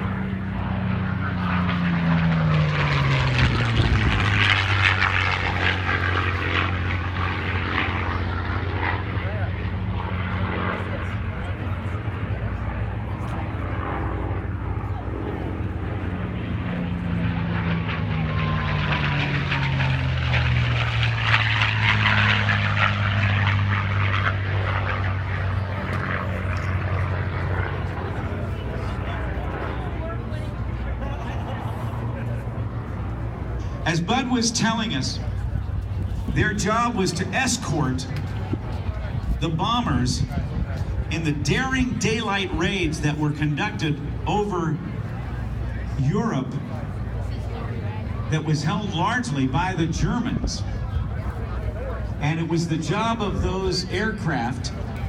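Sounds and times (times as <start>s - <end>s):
propeller aircraft engines flying past: 0.0s - 55.0s.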